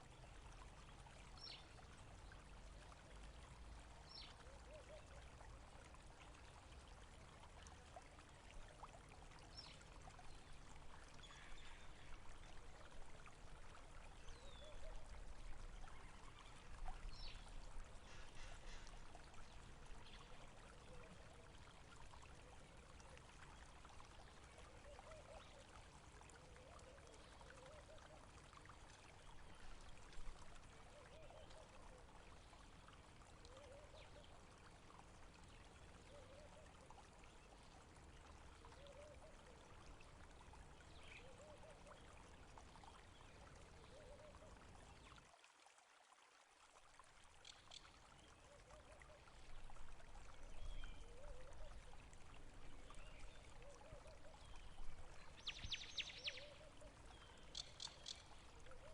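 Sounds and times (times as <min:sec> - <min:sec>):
stream trickling and gurgling: 0:00.0 - 0:58.9.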